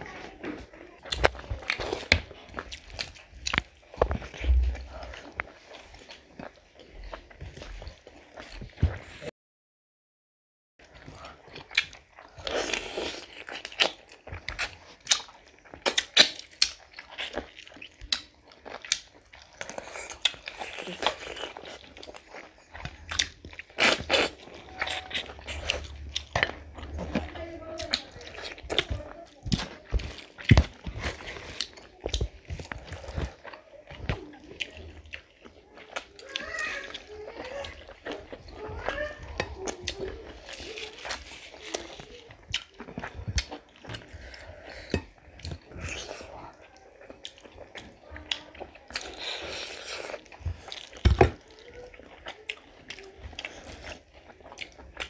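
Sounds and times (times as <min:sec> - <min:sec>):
chewing: 0:00.0 - 0:09.3, 0:10.8 - 0:55.0.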